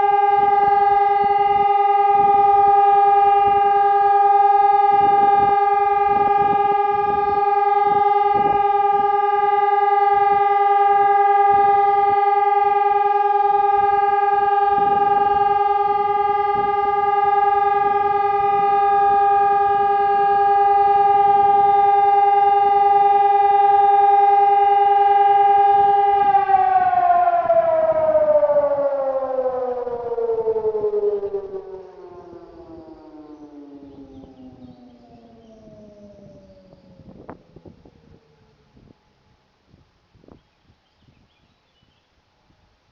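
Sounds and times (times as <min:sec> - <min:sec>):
electronic siren steady tone: 0:00.0 - 0:39.4.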